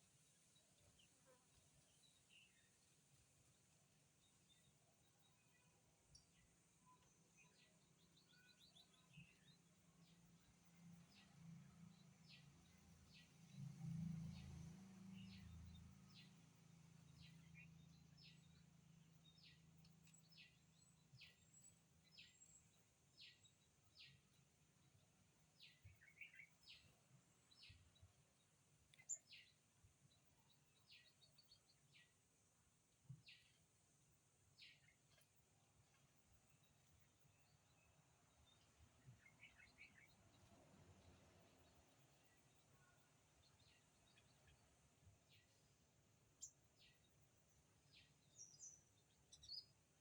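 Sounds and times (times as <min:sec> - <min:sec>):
faint bird chirps: 0:00.0 - 0:11.3, 0:17.0 - 0:32.2, 0:33.0 - 0:33.7, 0:34.6 - 0:50.0.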